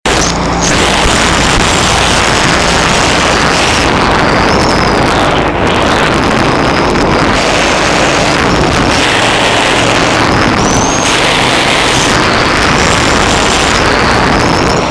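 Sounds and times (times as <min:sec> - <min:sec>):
motorcycle engine running: 0:00.0 - 0:14.9
wind buffeting microphone: 0:00.0 - 0:14.9.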